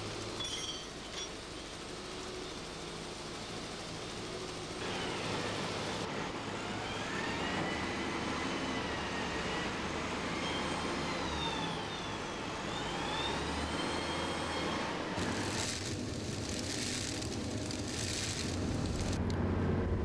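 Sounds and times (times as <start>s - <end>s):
cargo machinery humming and whining: 0.0s - 20.0s.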